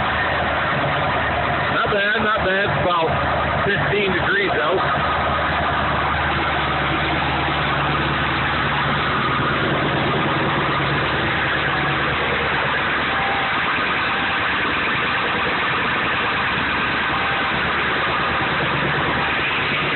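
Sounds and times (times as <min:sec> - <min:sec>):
diesel truck engine idling: 0:00.0 - 0:19.9.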